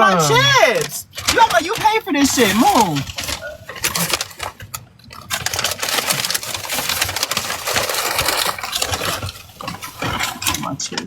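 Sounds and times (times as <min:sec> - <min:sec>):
bag of chips crinkling: 0:00.0 - 0:11.0.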